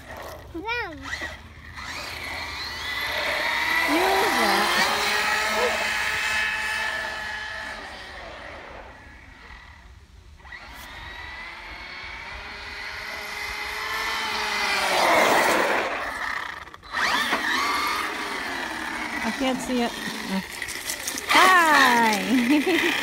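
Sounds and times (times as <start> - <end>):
rc truck motor whine: 0.0 - 23.0.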